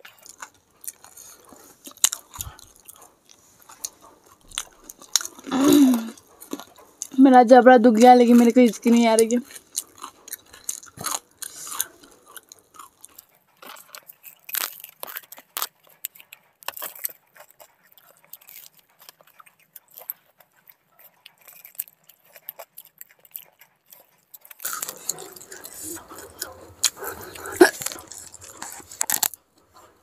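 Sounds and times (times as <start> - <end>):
crunchy pastry chewing: 0.0 - 7.2, 7.9 - 30.0.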